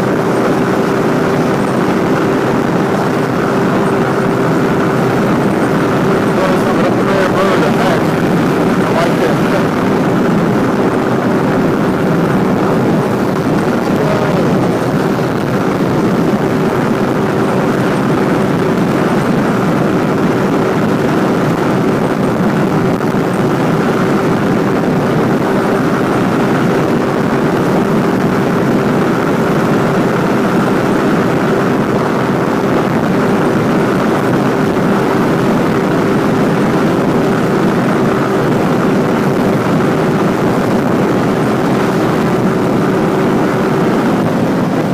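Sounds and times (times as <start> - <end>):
motorcycle engine cruising: 0.0 - 44.9
wind rushing over microphone: 0.0 - 44.9.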